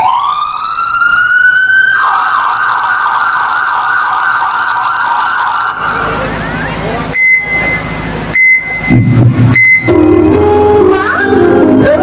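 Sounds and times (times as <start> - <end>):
siren wailing and warbling: 0.0 - 12.0.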